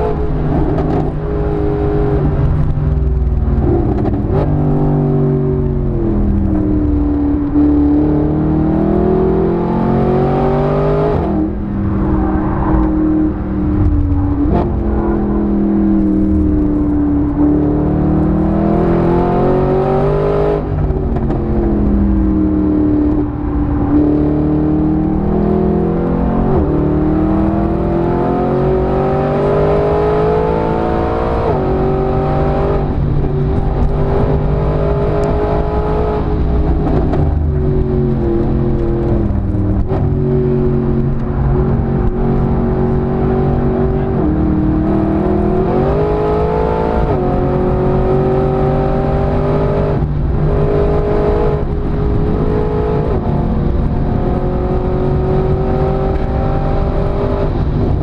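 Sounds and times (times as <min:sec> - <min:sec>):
car engine revving at full load: 0:00.0 - 0:58.0.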